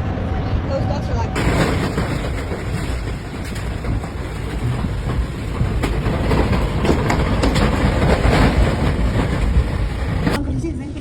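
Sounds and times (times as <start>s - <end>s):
sharp knocks: 1.4s - 10.4s
strong wind rushing: 1.4s - 10.4s.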